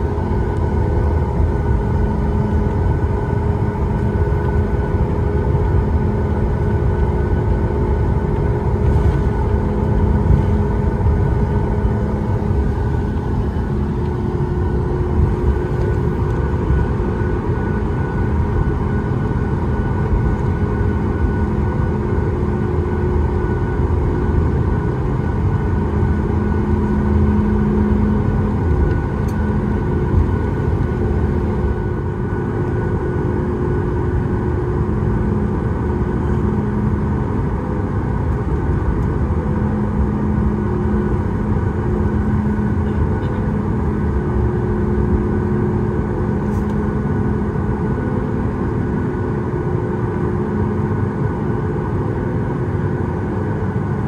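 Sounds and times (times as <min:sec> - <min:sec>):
airplane cabin engine rumble: 0:00.0 - 0:54.0
low hum: 0:00.0 - 0:54.0.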